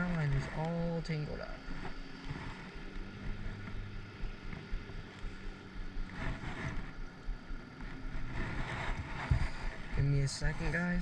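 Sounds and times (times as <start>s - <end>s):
faint steady low hum: 0.0s - 11.0s
wind buffeting microphone: 0.0s - 11.0s
low thumps: 1.3s - 11.0s.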